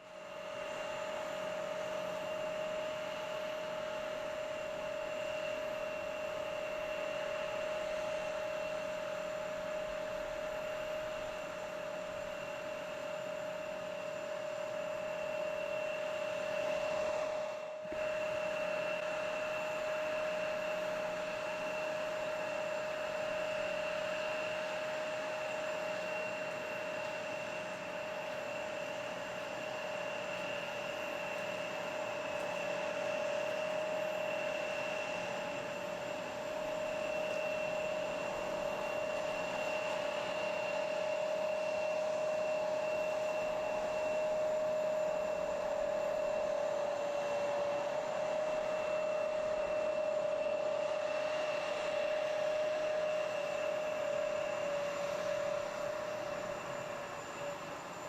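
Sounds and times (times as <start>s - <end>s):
jet engines whining: 0.1s - 58.0s.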